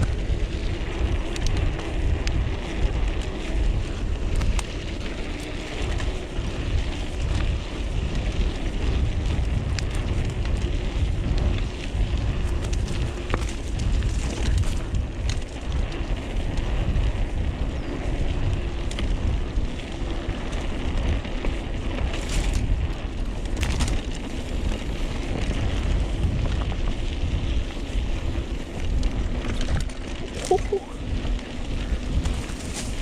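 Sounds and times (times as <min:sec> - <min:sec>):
mountain bike rolling and rattling: 0:00.0 - 0:33.0
wind buffeting microphone: 0:00.0 - 0:33.0.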